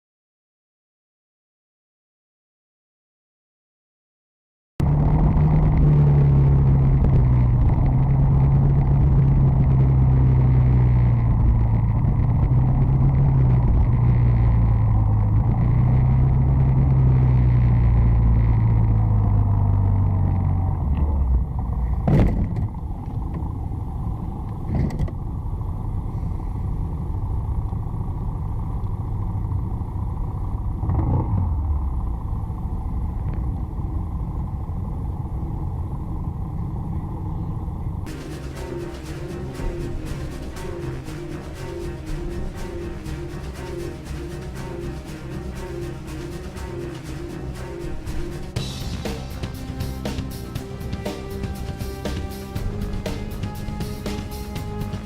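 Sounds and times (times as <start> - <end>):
car engine running: 4.8 - 55.0
road noise: 4.8 - 55.0.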